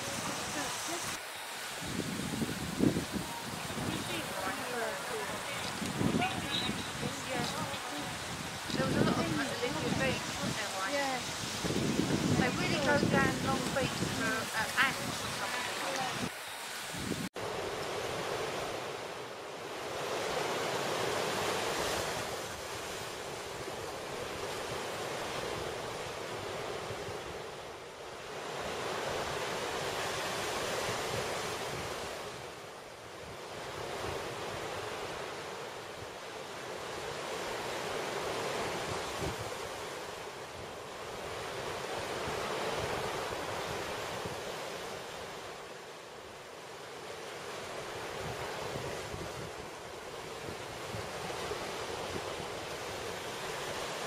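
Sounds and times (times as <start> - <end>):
surf washing over rocks: 0.0 - 54.0.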